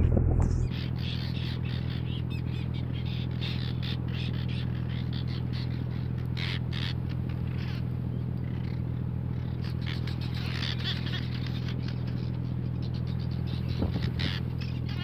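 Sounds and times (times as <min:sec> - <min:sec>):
boat engine hum: 0:00.0 - 0:15.0
seabirds squawking: 0:00.5 - 0:15.0.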